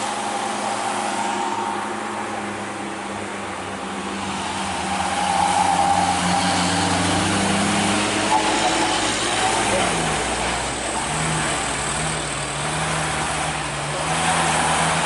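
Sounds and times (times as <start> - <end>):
truck engine running hard: 0.0 - 15.0.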